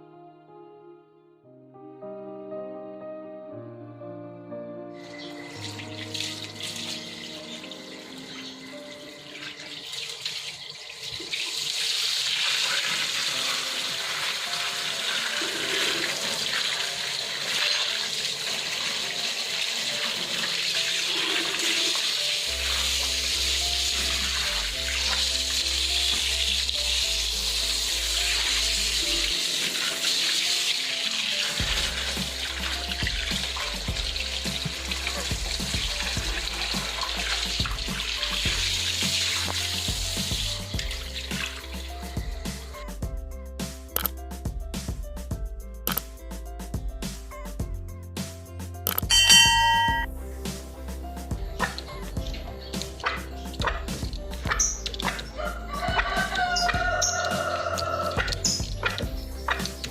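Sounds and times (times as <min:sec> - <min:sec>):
background music with held notes: 0:00.0 - 0:11.4, 0:12.0 - 0:59.9.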